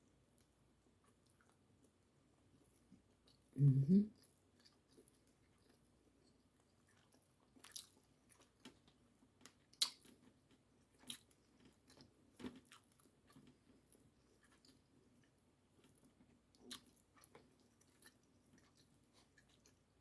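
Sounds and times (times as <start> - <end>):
person chewing: 0.4 - 2.0, 2.6 - 19.9.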